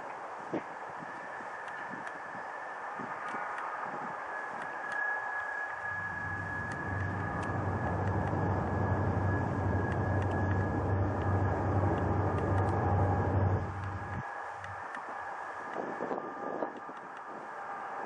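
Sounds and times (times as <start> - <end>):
distant diesel locomotive drone: 0.0 - 18.0
high thin whine: 1.2 - 18.0.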